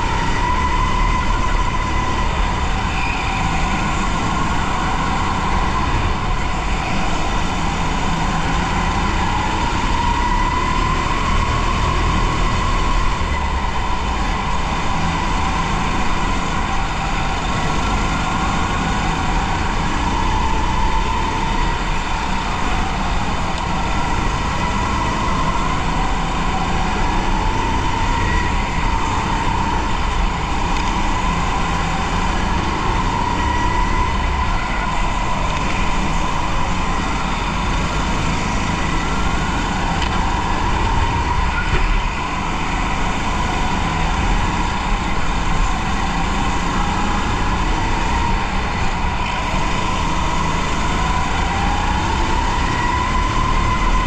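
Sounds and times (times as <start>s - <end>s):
low rumble of tyres: 0.0s - 54.0s.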